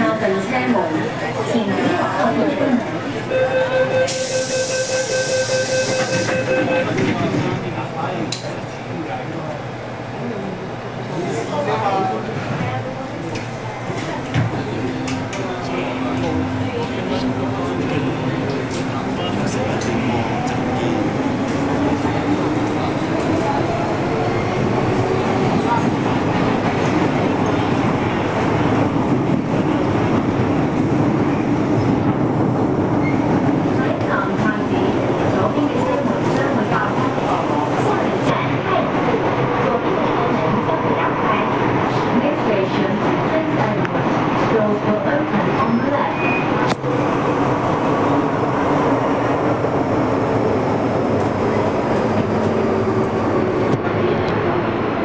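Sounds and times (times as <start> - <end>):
train wheels rumbling on rail: 4.1 - 55.0.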